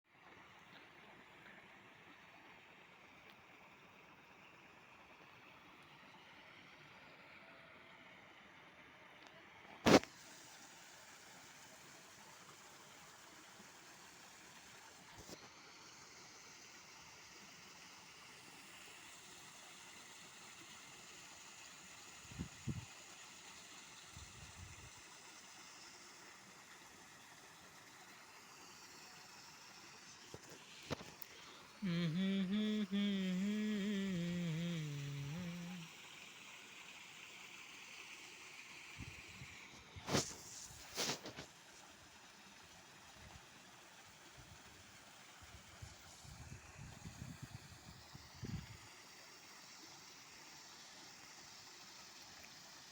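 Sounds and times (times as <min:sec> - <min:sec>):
small waterfall rushing: 0:00.1 - 0:52.9.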